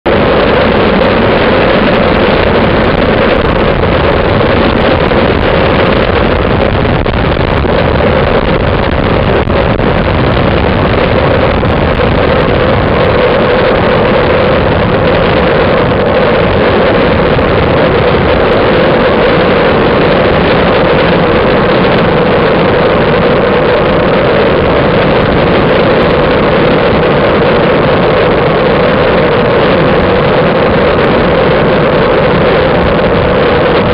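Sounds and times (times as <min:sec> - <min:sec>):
wind buffeting microphone: 0:00.0 - 0:33.9
constant droning hum: 0:00.1 - 0:33.9.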